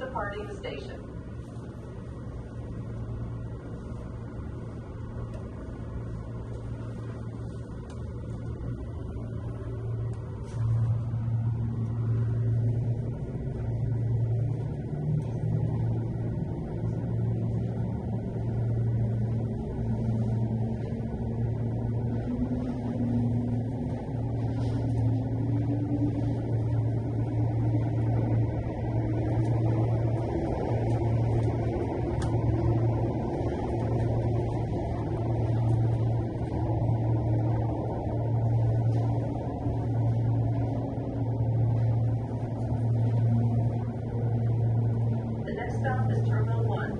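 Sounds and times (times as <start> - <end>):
tram running low hum: 0.0 - 46.9.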